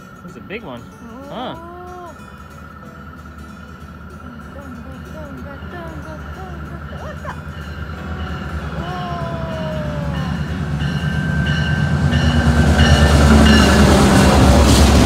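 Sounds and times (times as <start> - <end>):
diesel locomotive engine rumble: 0.0 - 15.0
locomotive bell ringing: 0.0 - 15.0
train wheel noise: 0.0 - 15.0.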